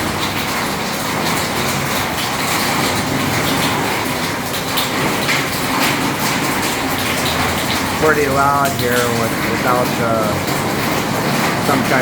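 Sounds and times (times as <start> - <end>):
heavy rain drumming on a roof: 0.0 - 12.0.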